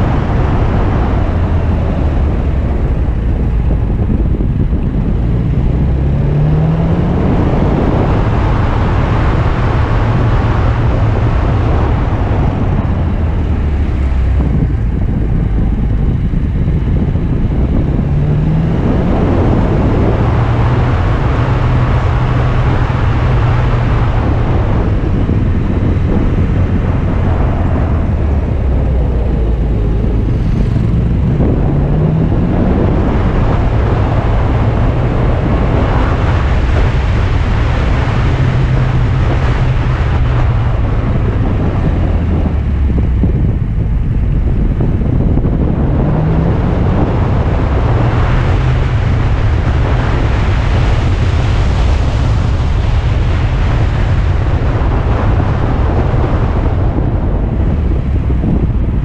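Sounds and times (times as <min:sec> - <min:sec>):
car engine accelerating: 0:00.0 - 0:59.0
road noise: 0:00.0 - 0:59.0
wind noise on microphone: 0:00.0 - 0:59.0.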